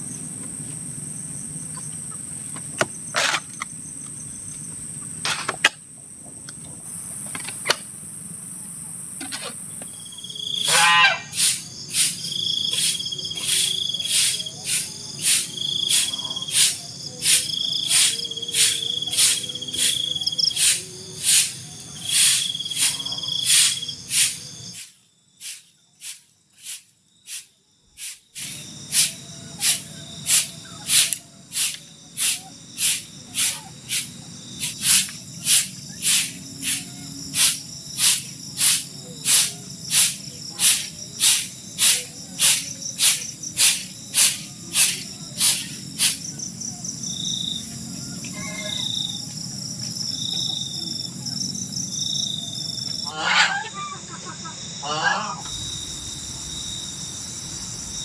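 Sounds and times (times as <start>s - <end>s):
insect chirping: 0.0s - 58.0s
high-pitched insect trilling: 9.8s - 58.0s.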